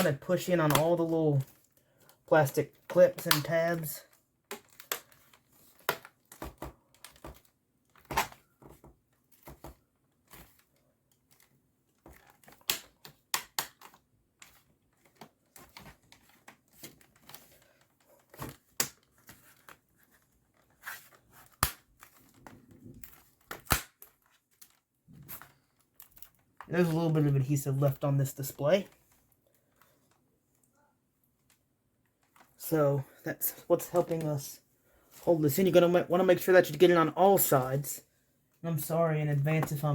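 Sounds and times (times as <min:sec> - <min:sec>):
light plastic crinkling: 0:00.0 - 0:39.9.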